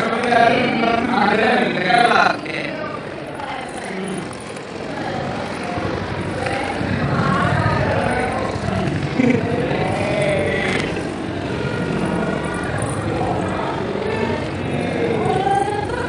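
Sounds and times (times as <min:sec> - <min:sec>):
crowd chattering: 0:00.0 - 0:16.0.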